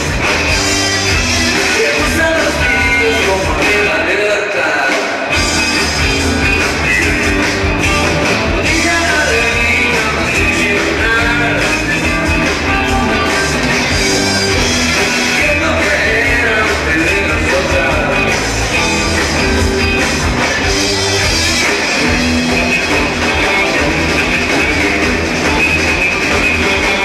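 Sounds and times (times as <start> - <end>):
drum kit: 0.0 - 4.2, 4.8 - 27.0
electric guitars: 0.0 - 27.0.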